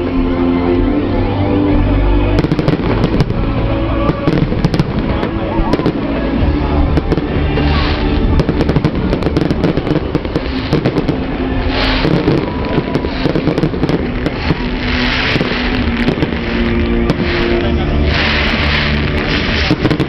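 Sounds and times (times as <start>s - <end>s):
fireworks bangs and crackles: 0.0s - 20.0s
music: 0.0s - 20.0s
hissing rush of fireworks: 1.0s - 20.0s.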